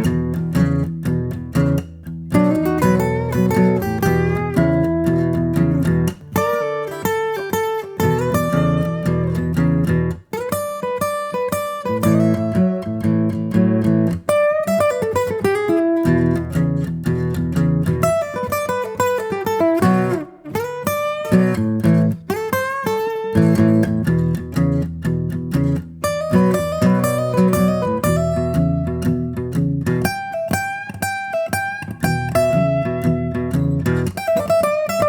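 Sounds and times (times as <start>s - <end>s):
acoustic guitar playing: 0.0s - 35.0s.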